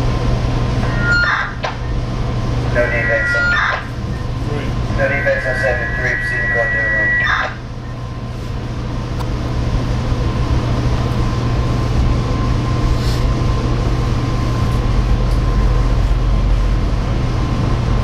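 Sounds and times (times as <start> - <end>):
faint steady whine: 0.0 - 18.0
low hum: 0.0 - 18.0.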